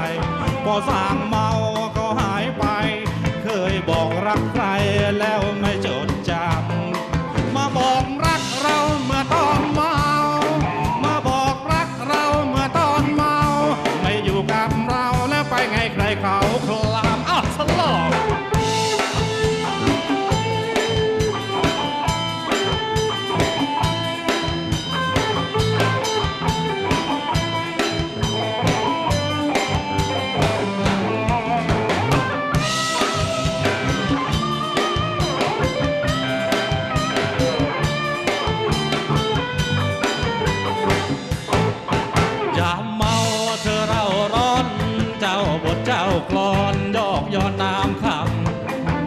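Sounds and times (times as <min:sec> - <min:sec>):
bass guitar: 0:00.0 - 0:49.0
drum kit: 0:00.0 - 0:49.0
electric guitar: 0:00.0 - 0:49.0.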